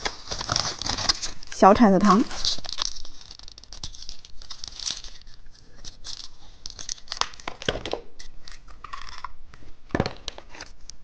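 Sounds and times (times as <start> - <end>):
plastic wrapper crinkling and tearing: 0.0 - 9.4.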